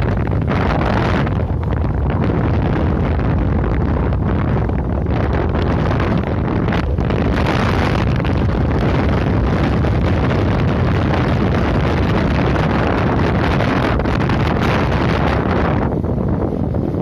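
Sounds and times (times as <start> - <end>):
road noise: 0.0 - 17.0
wind buffeting microphone: 0.0 - 17.0.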